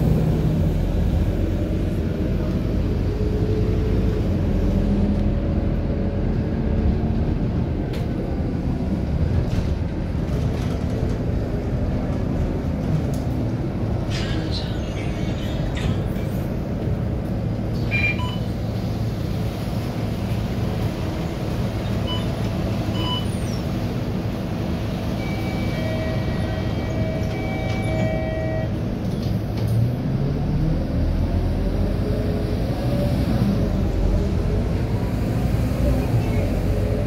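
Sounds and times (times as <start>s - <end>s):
bus diesel engine: 0.0s - 37.0s.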